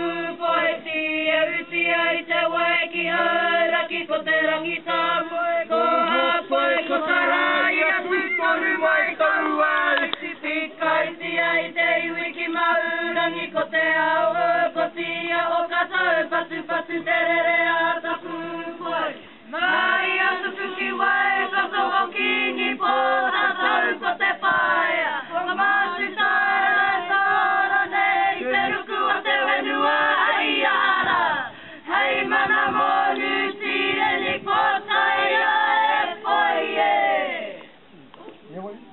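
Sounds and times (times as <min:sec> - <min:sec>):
mixed choir singing unaccompanied: 0:00.0 - 0:37.6.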